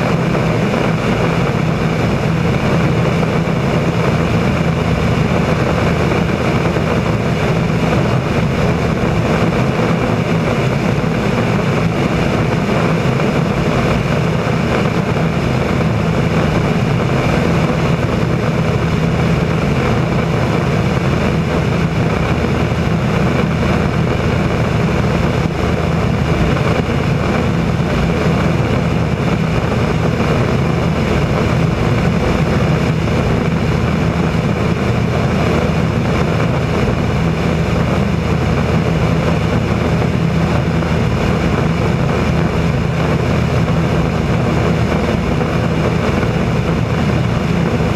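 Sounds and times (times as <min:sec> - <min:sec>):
propeller plane engine drone: 0:00.0 - 0:47.9.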